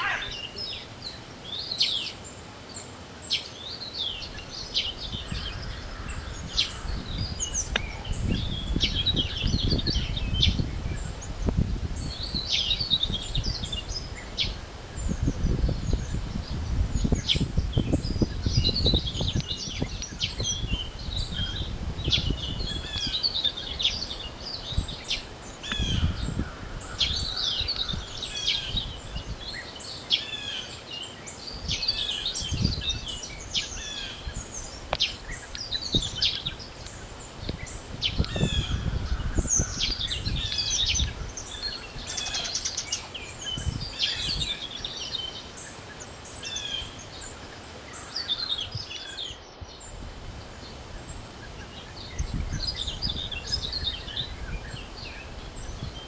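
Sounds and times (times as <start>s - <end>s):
songbirds chirping and trilling: 0.0s - 56.0s
wind gusts rumbling: 4.2s - 29.6s, 31.6s - 45.3s, 49.6s - 56.0s.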